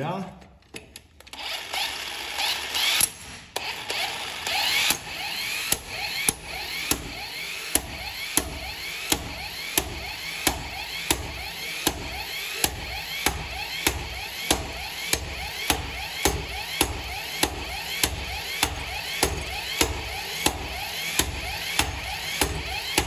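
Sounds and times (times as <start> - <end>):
impact wrench hammering: 0.6 - 23.0.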